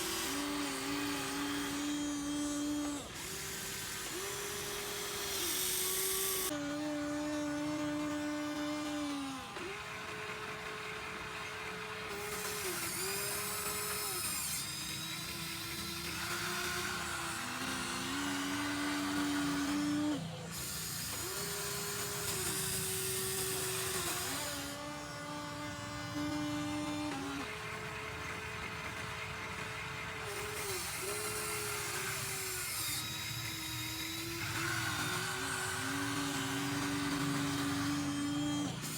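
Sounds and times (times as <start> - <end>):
toy excavator motors whining: 0.0 - 38.9.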